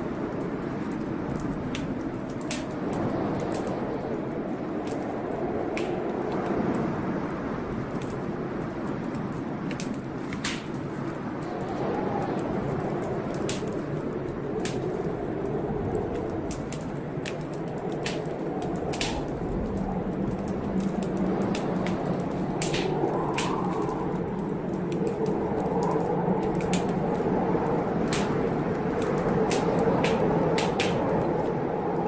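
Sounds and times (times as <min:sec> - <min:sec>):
rainstorm rushing: 0:00.0 - 0:32.0
wood fire crackling and popping: 0:00.0 - 0:32.0.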